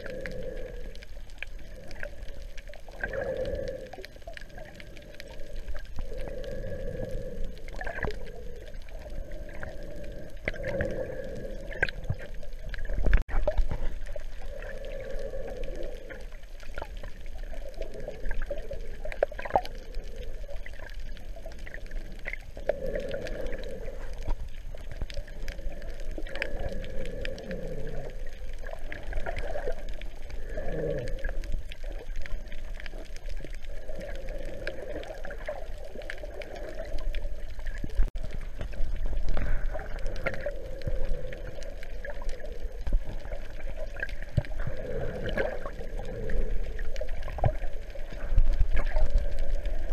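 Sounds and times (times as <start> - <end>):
muffled underwater water sloshing: 0.0 - 49.9.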